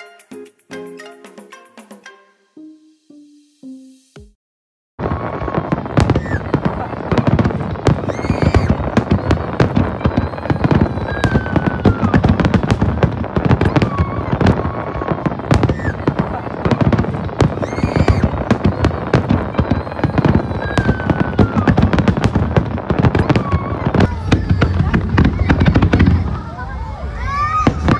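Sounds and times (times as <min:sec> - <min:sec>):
fireworks bangs and crackling: 0:05.0 - 0:27.9.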